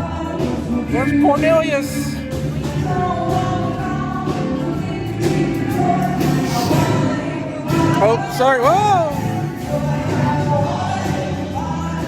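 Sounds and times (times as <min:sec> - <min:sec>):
steady bass: 0:00.0 - 0:12.0
people singing long notes: 0:02.1 - 0:12.0.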